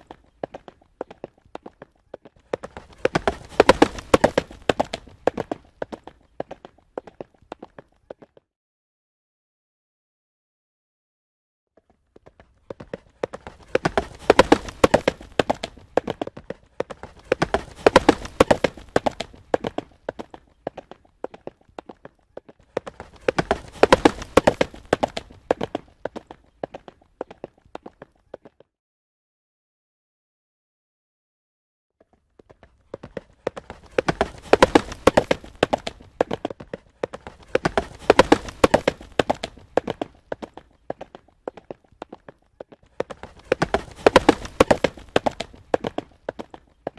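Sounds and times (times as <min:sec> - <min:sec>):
horse hoofbeats galloping: 0:00.0 - 0:08.5, 0:11.8 - 0:28.7, 0:32.0 - 0:46.9.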